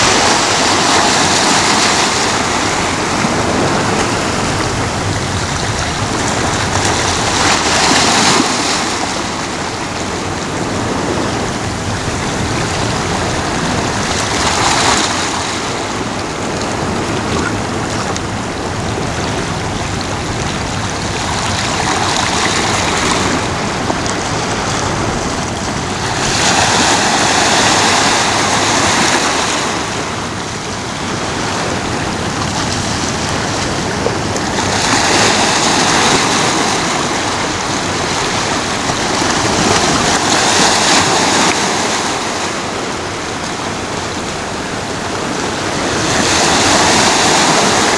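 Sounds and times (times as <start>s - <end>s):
ocean waves breaking on shore: 0.0s - 47.9s.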